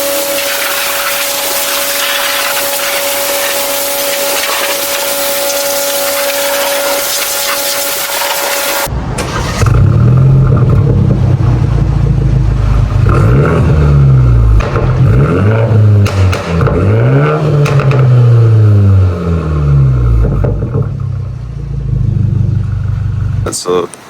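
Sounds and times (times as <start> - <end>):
car engine revving: 0.0 - 23.6.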